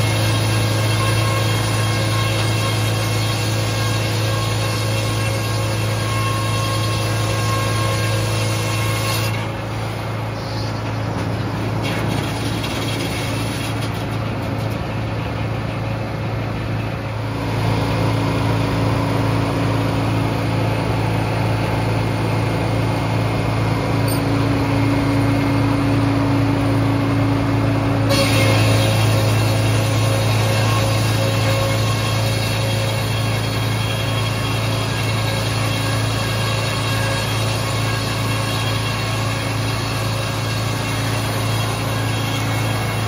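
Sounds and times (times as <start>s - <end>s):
sawmill drone: 0.0s - 43.0s.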